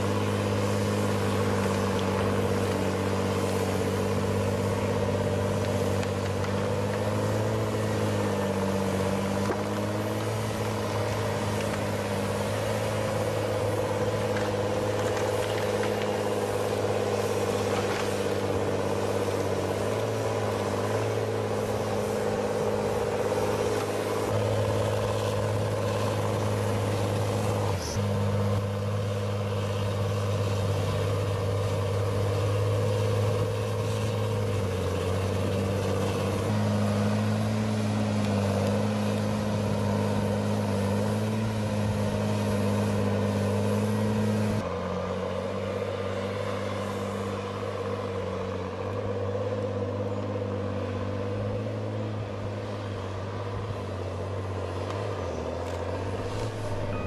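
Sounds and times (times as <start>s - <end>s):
deep diesel engine under load: 0.0s - 57.0s.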